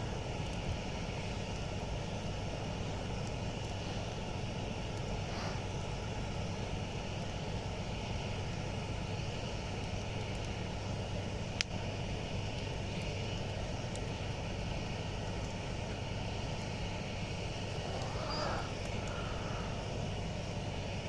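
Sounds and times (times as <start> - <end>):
campfire burning: 0.0 - 21.0.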